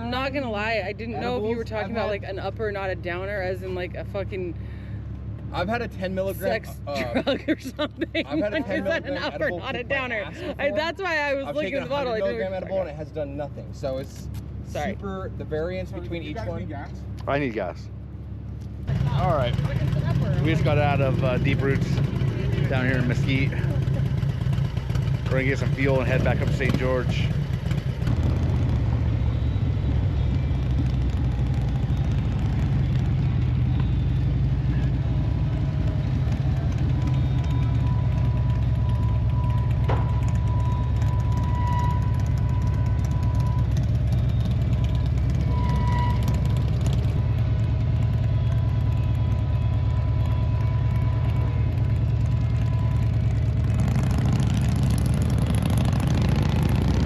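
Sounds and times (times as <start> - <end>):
motorcycle engine and road rumble: 0.0 - 57.0.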